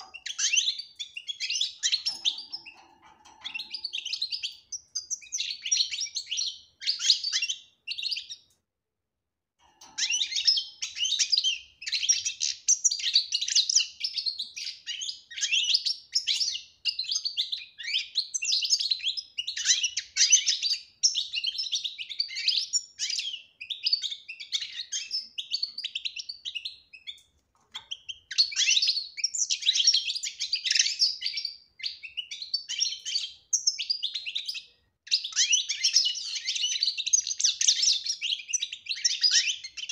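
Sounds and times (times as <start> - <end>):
bird twittering song: 0.0 - 8.6, 9.6 - 39.9.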